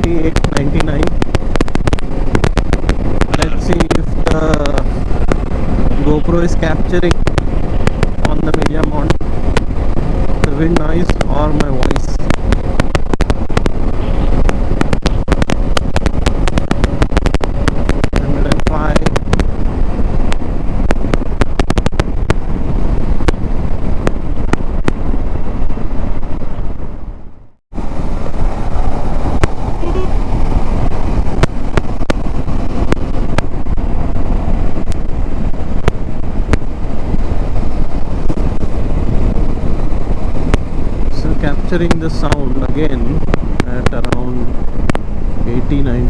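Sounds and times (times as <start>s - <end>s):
crackling pops: 0.0s - 5.6s, 6.2s - 25.1s, 28.3s - 45.1s
road and traffic noise: 0.0s - 46.0s
wind buffeting microphone: 0.0s - 46.0s.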